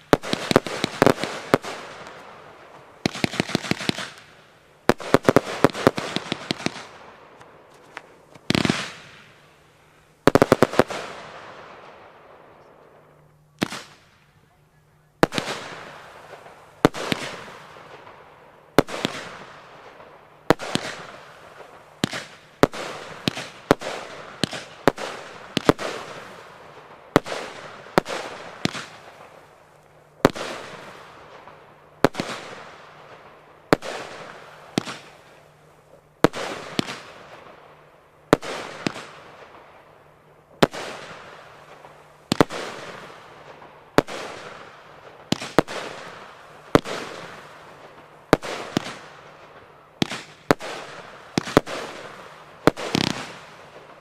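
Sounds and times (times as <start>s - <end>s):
firework bangs: 0.0s - 14.6s, 15.2s - 54.0s.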